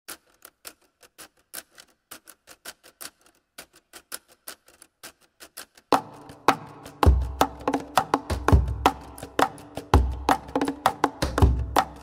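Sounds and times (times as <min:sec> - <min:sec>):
rapid sharp clicks: 0:00.1 - 0:12.0.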